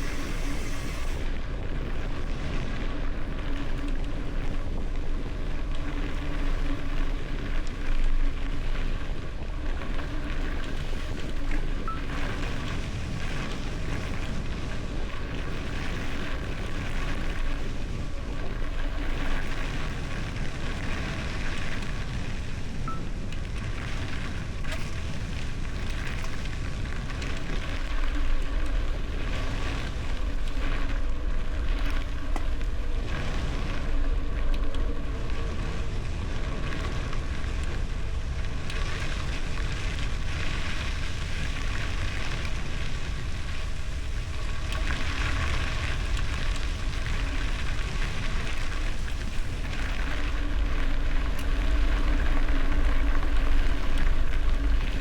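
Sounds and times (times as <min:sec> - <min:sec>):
bicycle tyres on gravel: 0:00.0 - 0:55.0
wind buffeting on microphone: 0:00.0 - 0:55.0.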